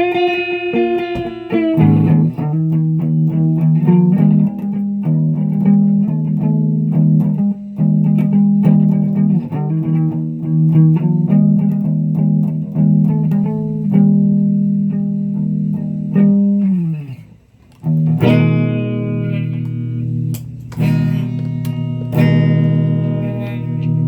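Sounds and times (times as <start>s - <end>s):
guitar playing: 0.0s - 24.0s.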